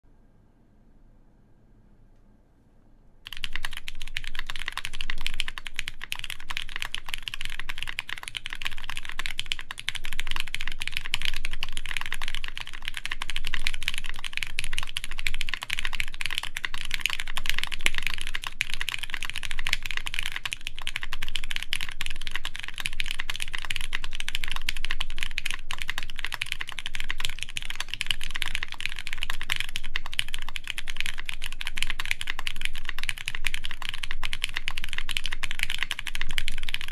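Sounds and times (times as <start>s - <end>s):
fast typing on mechanical keyboard: 3.3s - 36.9s.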